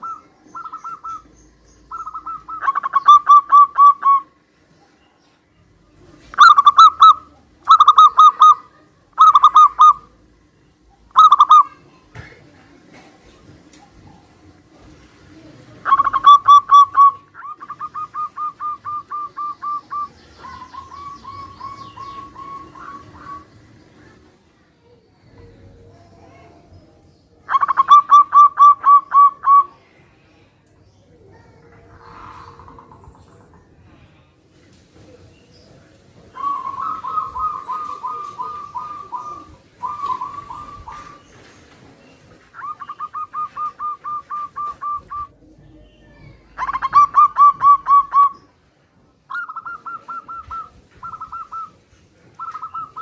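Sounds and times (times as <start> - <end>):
doves cooing: 0.0 - 4.4, 5.9 - 10.4, 11.0 - 24.3, 27.5 - 29.8, 31.7 - 34.0, 36.2 - 48.6, 49.3 - 53.0.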